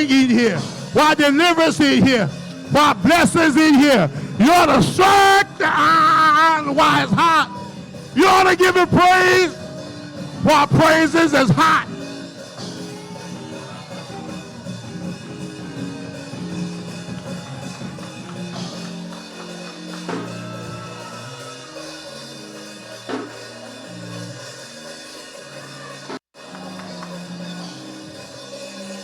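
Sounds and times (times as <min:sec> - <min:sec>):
drum and cymbal hits: 0:00.0 - 0:29.0.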